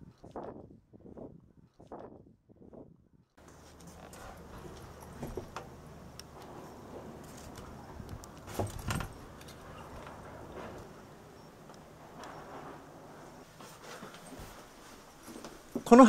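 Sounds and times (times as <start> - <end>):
low steady hum: 2.8 - 16.0.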